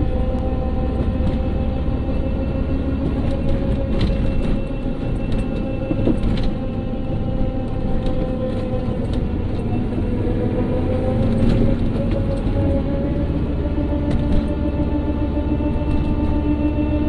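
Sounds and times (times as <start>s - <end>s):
car low rumble: 0.0s - 17.0s
car whirring whine: 0.0s - 17.0s.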